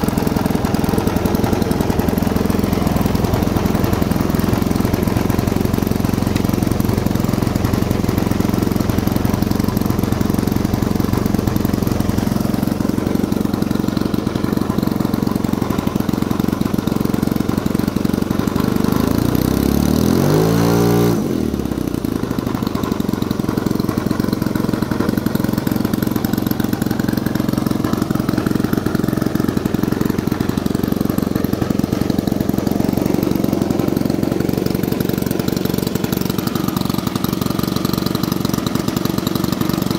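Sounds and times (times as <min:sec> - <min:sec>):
model aircraft engine running: 0:00.0 - 0:39.9.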